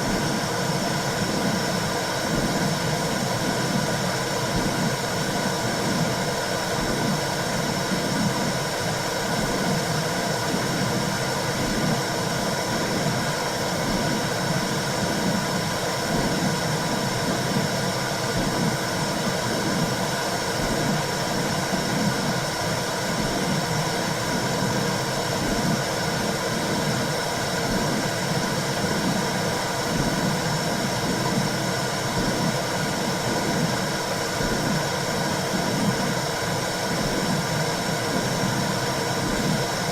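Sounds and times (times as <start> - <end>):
low rhythmic whooshing: 0.0 - 39.9
white noise hiss: 0.0 - 39.9.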